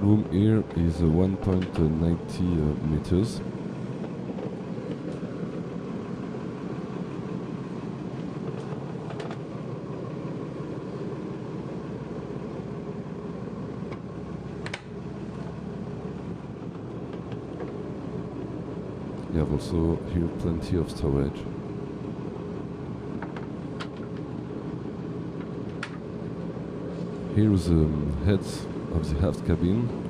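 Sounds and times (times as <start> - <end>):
diesel engines idling: 0.0 - 30.0.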